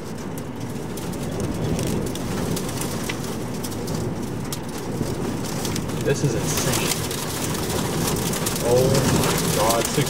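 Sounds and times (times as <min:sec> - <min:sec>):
wind buffeting a vehicle: 0:00.0 - 0:10.0.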